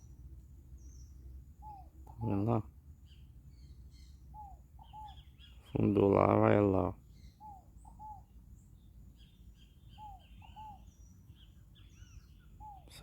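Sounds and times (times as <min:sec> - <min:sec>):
faint bird calls: 0:00.8 - 0:13.0.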